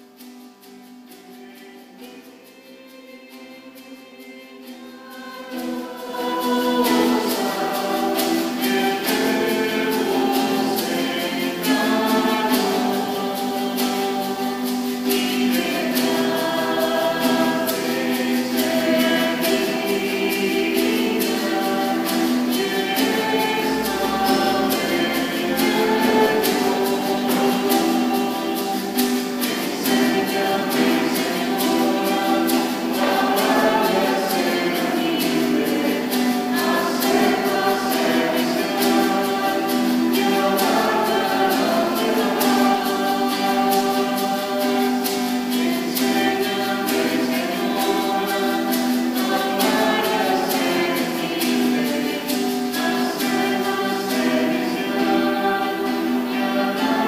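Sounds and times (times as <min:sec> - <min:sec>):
choir singing a hymn: 0:00.0 - 0:57.0
instrumental accompaniment: 0:00.0 - 0:57.0.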